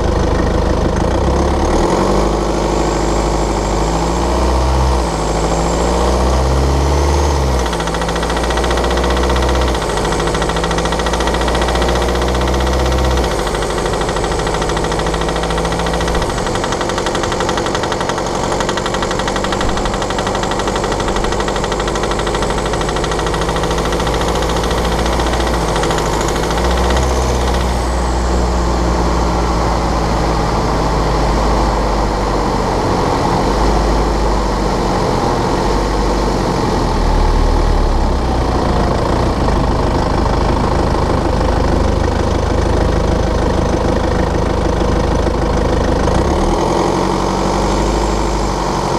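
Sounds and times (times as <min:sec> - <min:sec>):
diesel engine rattling and ticking: 0:00.0 - 0:48.9.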